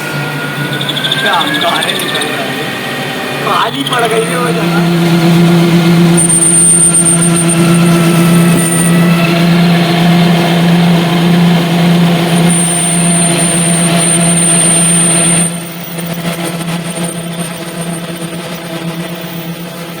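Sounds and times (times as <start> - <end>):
lathe humming: 0.0 - 20.0
thin high whine: 0.0 - 20.0.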